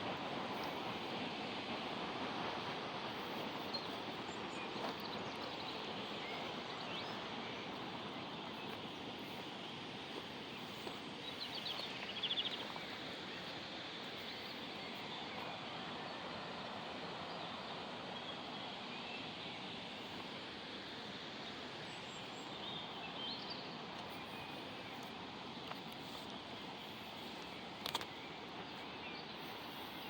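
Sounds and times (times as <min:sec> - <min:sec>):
steady rush of noise: 0:00.0 - 0:30.0.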